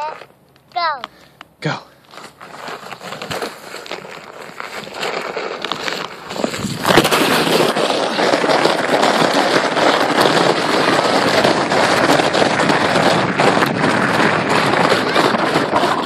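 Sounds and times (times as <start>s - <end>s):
sled scraping over snow: 0.0s - 1.1s, 2.0s - 16.0s.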